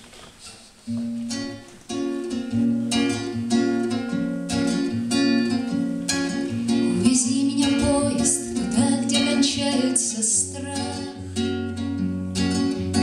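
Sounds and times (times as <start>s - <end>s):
nylon-string guitar playing chords: 0.7s - 13.0s.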